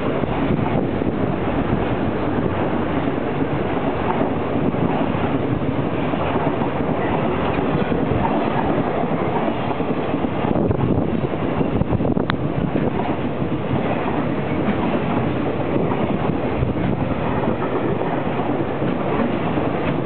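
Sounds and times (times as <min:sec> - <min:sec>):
steel wheels running on rails: 0:00.0 - 0:20.0.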